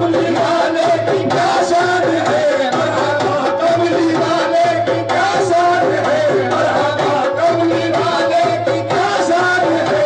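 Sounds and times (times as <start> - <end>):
hand drum: 0.0 - 10.0
other instruments: 0.0 - 10.0.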